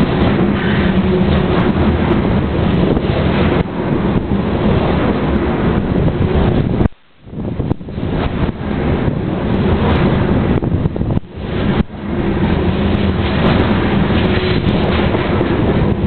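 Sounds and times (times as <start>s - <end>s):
train wheels rumbling on rails: 0.0s - 16.0s
wind noise on microphone: 0.0s - 16.0s.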